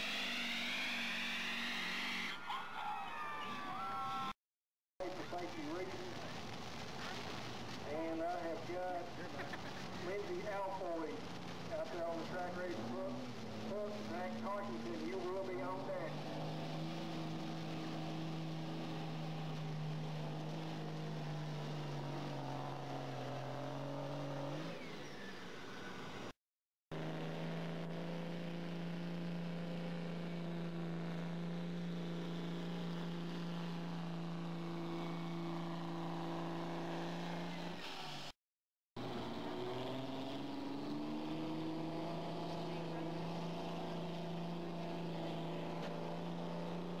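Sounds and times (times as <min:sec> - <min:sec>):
diesel truck engine revving: 0:00.0 - 0:02.6, 0:08.7 - 0:26.3, 0:26.9 - 0:37.8, 0:39.0 - 0:47.0.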